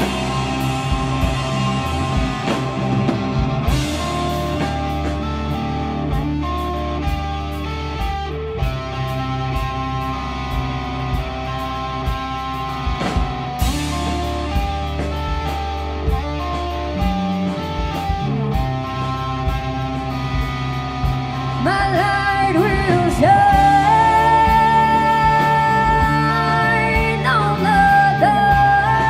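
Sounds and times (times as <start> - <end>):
lead guitar bending notes: 0.0 - 29.0
rock band playing live: 0.0 - 29.0.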